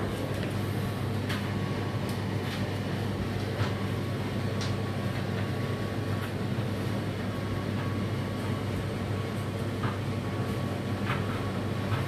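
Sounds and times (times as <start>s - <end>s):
dishwasher motor hum: 0.0s - 12.0s.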